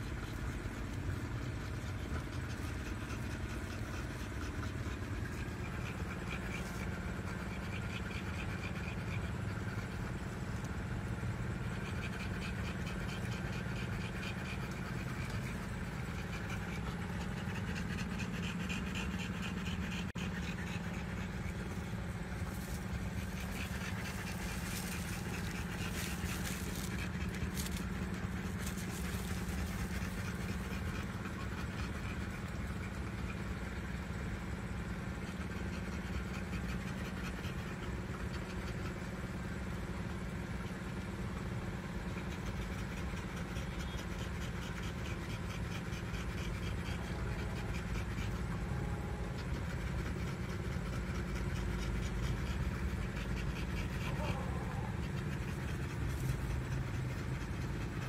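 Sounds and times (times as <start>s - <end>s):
constant low hum: 0.0s - 58.0s
dog panting: 0.0s - 58.0s.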